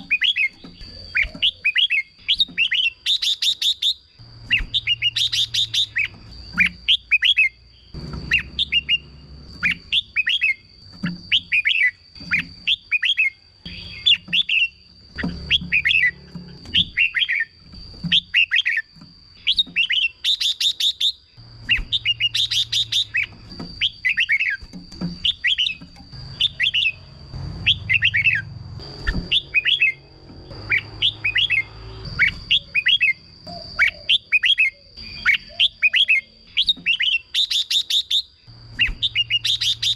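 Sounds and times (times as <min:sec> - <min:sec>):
birds singing chirped phrases: 0:00.0 - 0:39.9.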